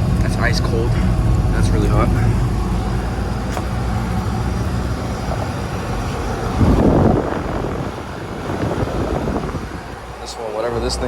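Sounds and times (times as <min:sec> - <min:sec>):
fan rush: 0:00.0 - 0:11.0
low compressor hum: 0:00.0 - 0:11.0.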